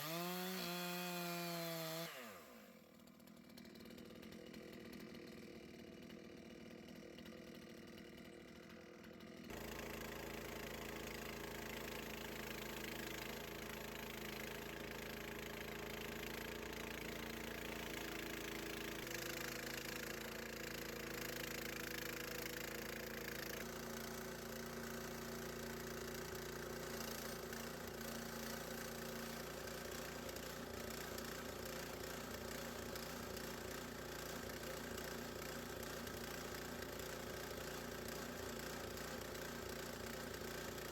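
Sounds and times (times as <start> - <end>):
sawmill gas engine running: 0.0 - 40.9.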